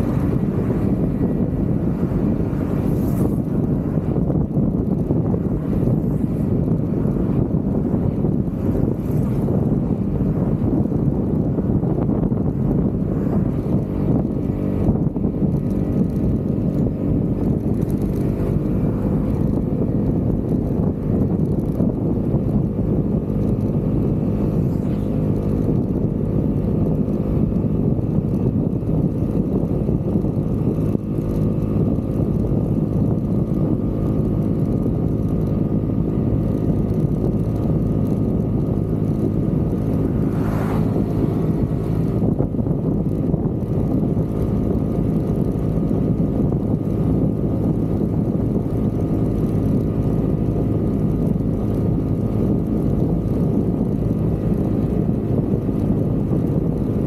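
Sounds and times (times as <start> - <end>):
scooter engine running: 0.0 - 57.0.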